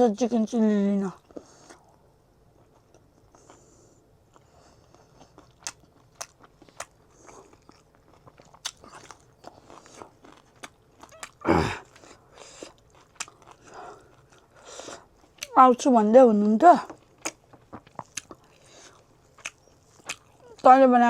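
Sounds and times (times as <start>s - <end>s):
person chewing crunchy food: 1.2s - 20.8s.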